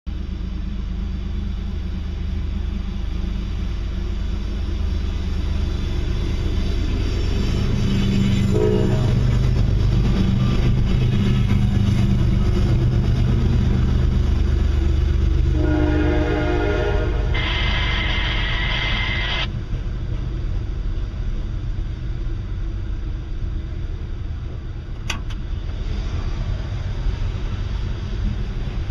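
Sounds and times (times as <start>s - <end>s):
deep steady tones: 0.1s - 25.8s
diesel locomotive rumble: 0.1s - 28.9s.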